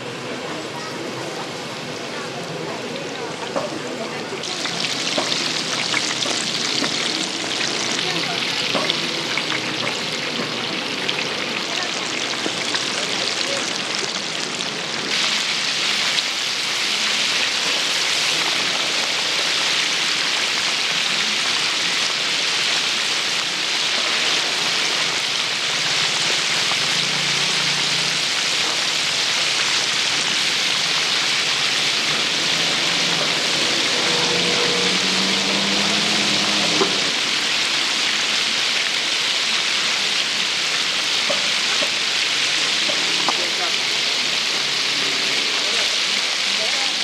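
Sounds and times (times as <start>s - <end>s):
deep-frying oil sizzling: 0.0s - 47.0s.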